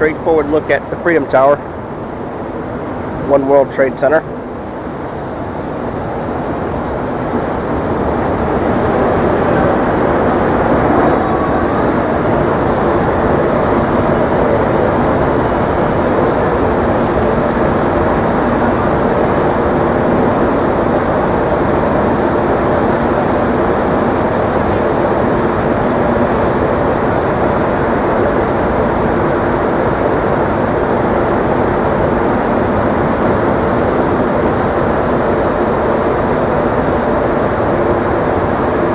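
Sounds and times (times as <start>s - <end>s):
heavy street traffic rumble: 0.0s - 38.9s
low engine hum: 0.0s - 38.9s.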